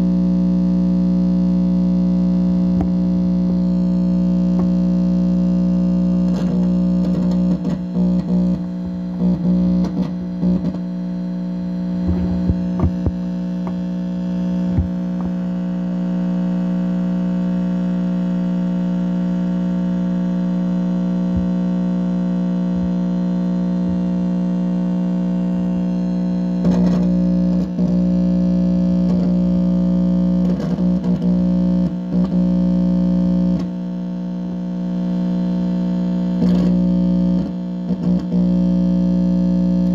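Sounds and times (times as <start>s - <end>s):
loud electrical buzz: 0.0s - 39.9s
distorted crackling bursts: 1.8s - 16.5s, 20.5s - 39.9s.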